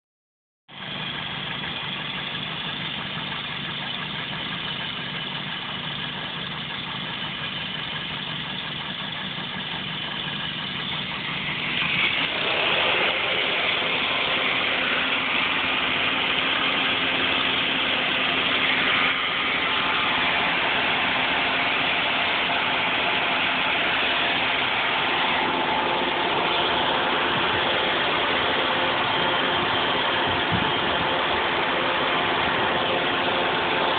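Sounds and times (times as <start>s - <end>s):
car engine idling: 0.7s - 33.9s.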